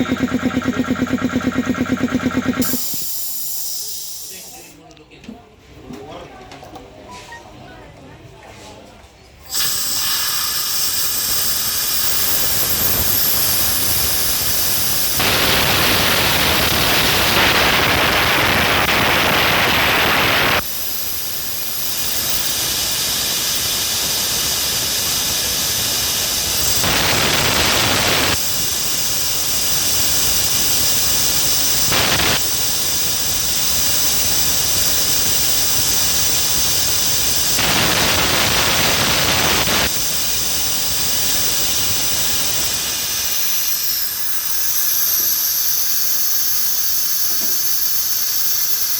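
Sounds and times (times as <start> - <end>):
air compressor running: 0.0 - 4.8, 9.4 - 48.9
air hissing bursts: 0.0 - 4.8, 9.4 - 48.9.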